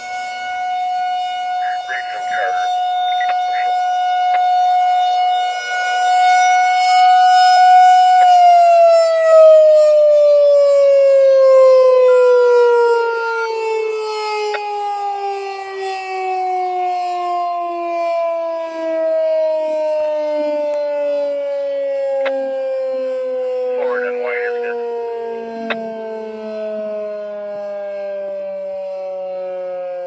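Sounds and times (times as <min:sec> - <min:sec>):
tornado siren winding down: 0:00.0 - 0:30.0.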